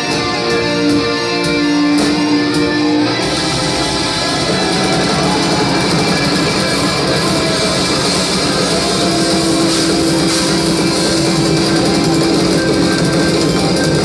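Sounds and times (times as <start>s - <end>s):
electric guitar: 0.0s - 14.0s
keyboard: 0.0s - 14.0s
rock band playing live: 0.0s - 14.0s.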